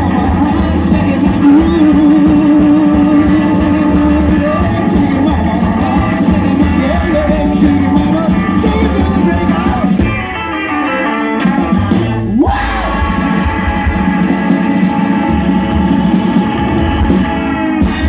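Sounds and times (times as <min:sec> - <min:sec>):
person singing: 0:00.0 - 0:10.2, 0:12.1 - 0:18.0
guitar: 0:00.0 - 0:18.0
rock band playing live: 0:00.0 - 0:18.0.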